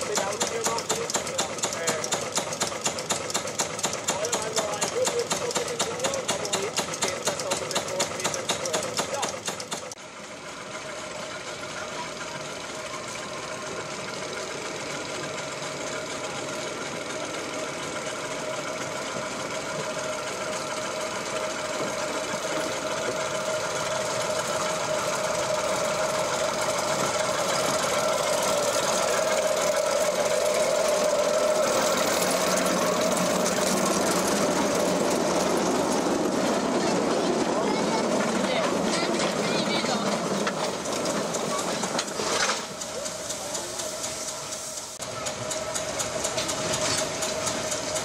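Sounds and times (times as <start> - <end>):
diesel locomotive engine running: 0.0 - 48.0.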